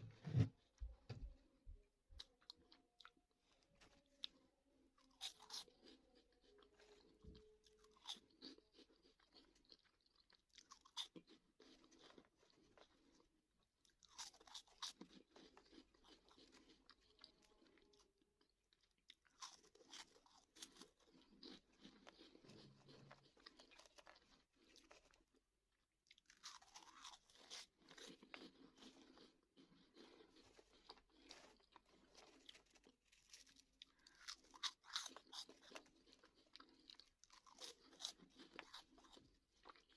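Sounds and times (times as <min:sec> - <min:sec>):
crunchy snack chewing: 0:02.2 - 0:39.9.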